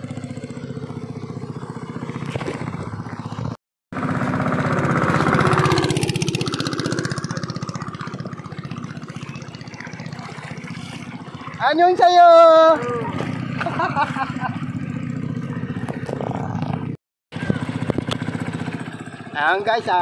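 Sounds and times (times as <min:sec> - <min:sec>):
small motorboat engine: 0:00.0 - 0:20.0.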